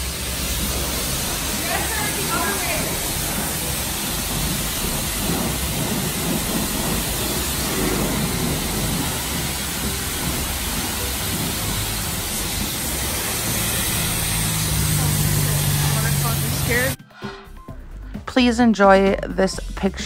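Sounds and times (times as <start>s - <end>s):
pressure wand spraying water: 0.0s - 17.0s.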